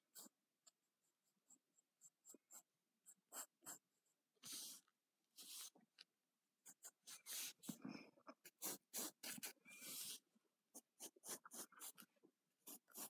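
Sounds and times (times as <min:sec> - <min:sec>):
pencil scratching on paper: 0:00.0 - 0:05.8, 0:06.6 - 0:07.8, 0:08.4 - 0:13.0.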